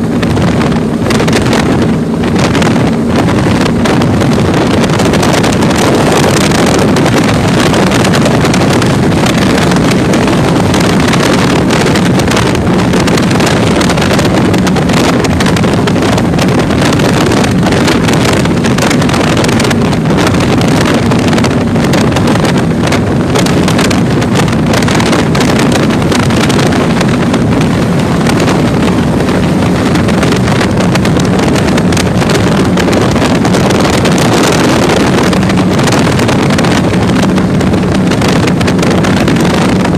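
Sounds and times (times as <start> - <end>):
boat engines droning: 0.0 - 39.9
rushing water: 0.0 - 39.9
wind buffeting microphone: 0.0 - 39.9.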